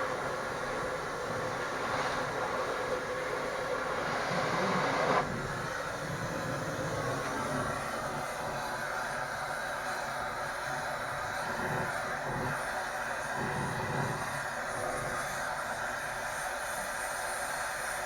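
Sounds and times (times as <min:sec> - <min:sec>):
gas cutting torch hissing: 0:00.0 - 0:18.0.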